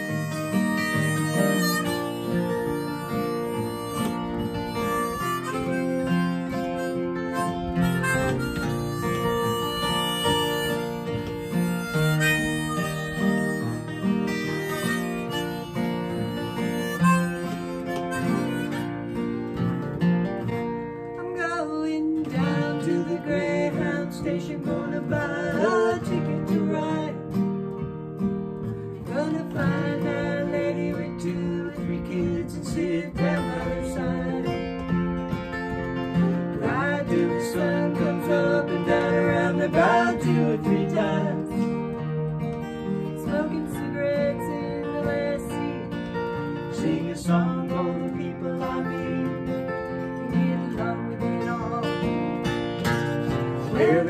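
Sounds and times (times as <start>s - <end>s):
sliding lead melody: 0.0s - 21.2s, 22.2s - 54.0s
acoustic guitar strumming: 0.0s - 54.0s.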